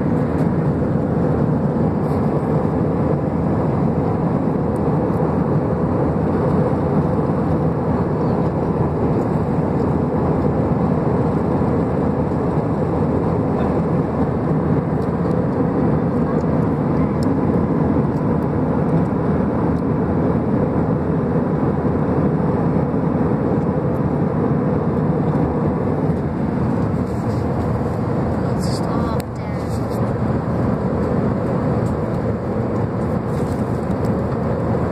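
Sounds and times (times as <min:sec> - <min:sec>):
jet airliner cabin noise: 0:00.0 - 0:34.9.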